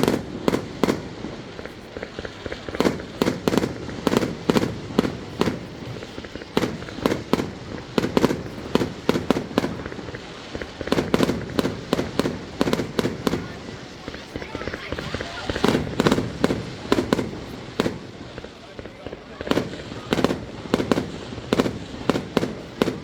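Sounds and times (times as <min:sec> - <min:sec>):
fireworks bangs and cracks: 0:00.0 - 0:23.0.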